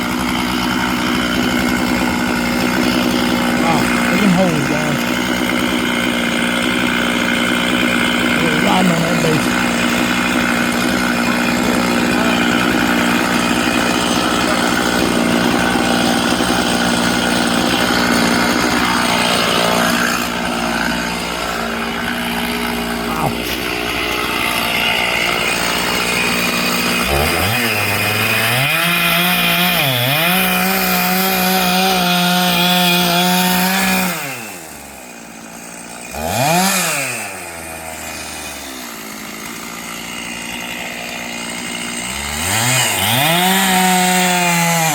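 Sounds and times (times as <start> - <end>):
chainsaw revving and idling: 0.0 - 44.9.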